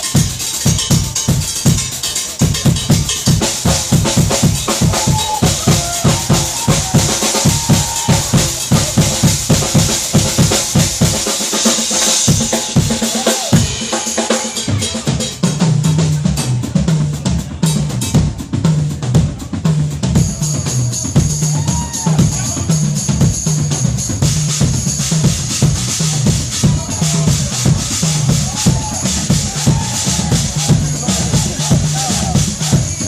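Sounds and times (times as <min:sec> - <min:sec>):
drum kit solo: 0:00.0 - 0:33.0.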